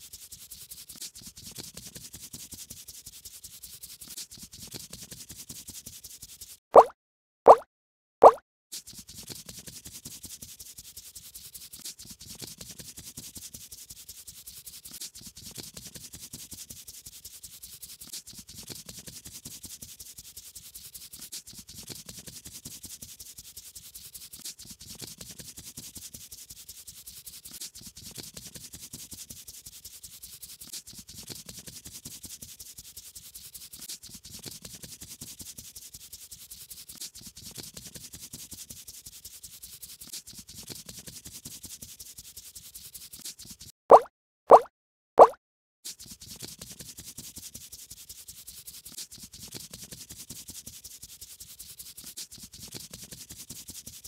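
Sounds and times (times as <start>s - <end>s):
paintbrush rubbing on paper: 0.0s - 6.6s, 8.2s - 44.6s, 45.9s - 54.0s.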